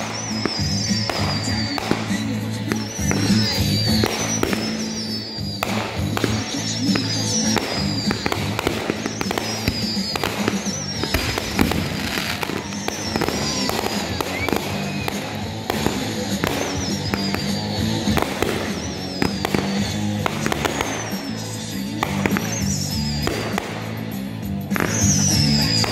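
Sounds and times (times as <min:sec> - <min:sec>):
fireworks popping and crackling: 0:00.0 - 0:25.9
whistling fireworks falling in pitch: 0:00.0 - 0:25.9.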